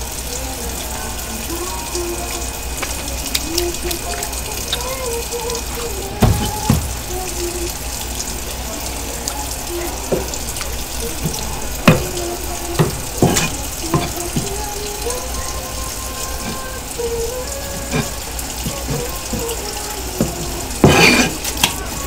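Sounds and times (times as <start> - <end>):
tap water running into sink: 0.0 - 22.0.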